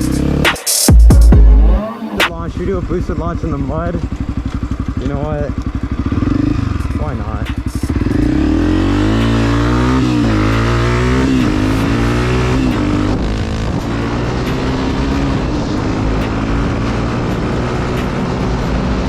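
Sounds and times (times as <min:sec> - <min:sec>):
dirt bike engine revving: 0:00.0 - 0:00.6, 0:01.6 - 0:19.0.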